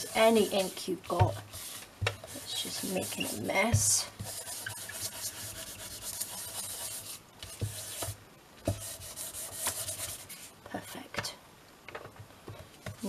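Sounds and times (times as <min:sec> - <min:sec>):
blending tool rubbing on paper: 0:00.0 - 0:10.6.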